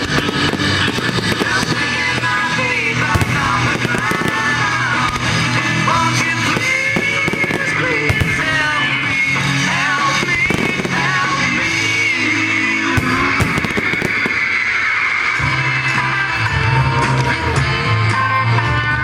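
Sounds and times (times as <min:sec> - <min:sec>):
fireworks bursting and crackling: 0:00.0 - 0:16.4
music: 0:00.0 - 0:19.0.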